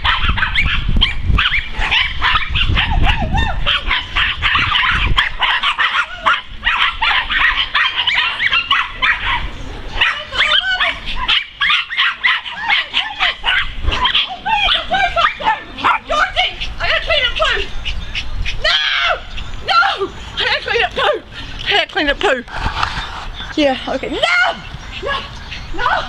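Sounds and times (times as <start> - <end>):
small dogs barking and yapping: 0.0 - 21.8, 22.8 - 26.0.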